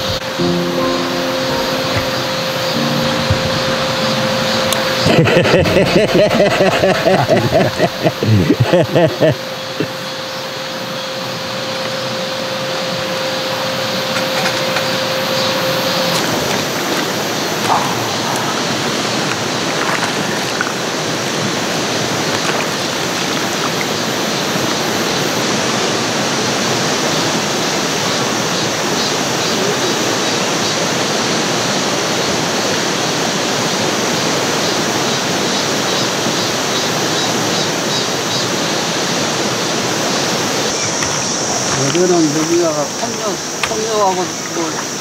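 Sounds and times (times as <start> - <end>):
mountain stream rushing over stones: 0.0 - 10.1, 11.4 - 45.0.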